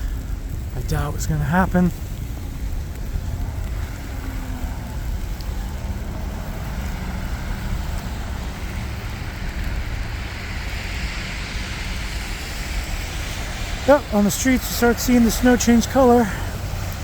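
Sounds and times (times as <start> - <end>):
street traffic: 0.0 - 17.0
wind rumbling on microphone: 0.0 - 17.0.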